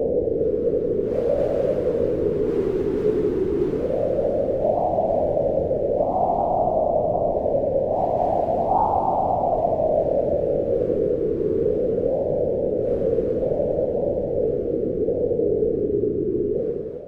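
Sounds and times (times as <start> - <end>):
wind howling in gusts: 0.0 - 17.0.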